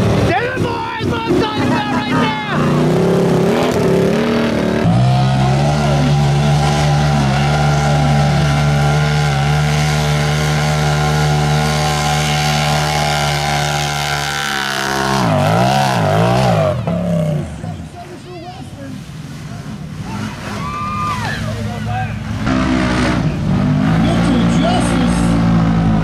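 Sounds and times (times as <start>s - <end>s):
off-road engine running hard: 0.0s - 26.0s.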